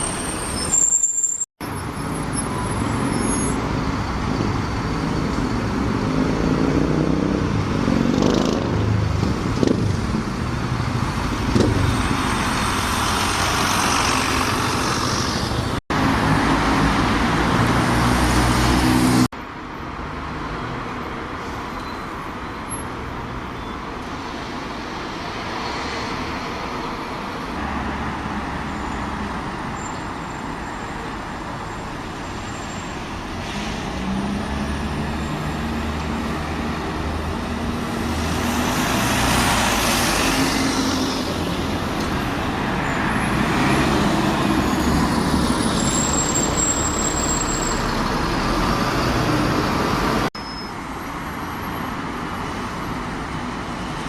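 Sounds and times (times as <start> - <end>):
heavy vehicles passing: 1.6 - 54.0.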